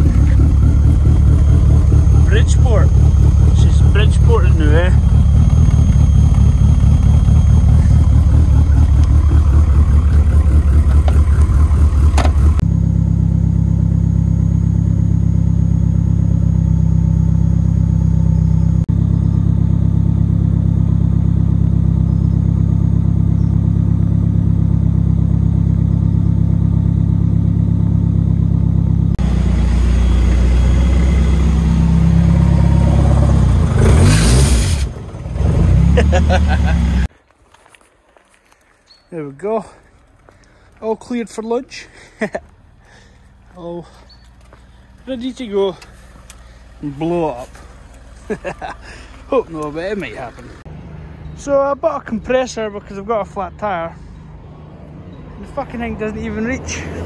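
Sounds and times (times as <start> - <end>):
car engine idling: 0.0 - 37.1, 39.2 - 57.0.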